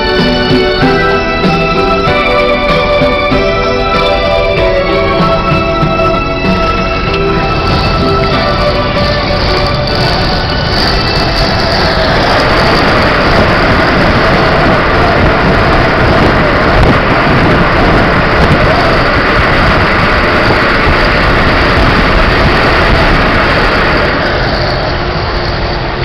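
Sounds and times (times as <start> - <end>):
truck engine running: 0.0 - 26.0
wind and road noise: 0.0 - 26.0.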